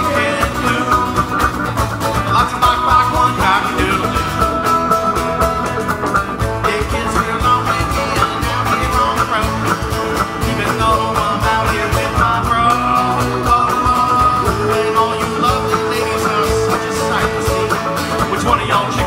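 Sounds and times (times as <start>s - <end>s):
man singing lead vocal: 0.0s - 5.3s, 6.4s - 19.0s
acoustic guitar: 0.0s - 19.0s
bass guitar: 0.0s - 19.0s
strummed electric guitar: 0.0s - 19.0s.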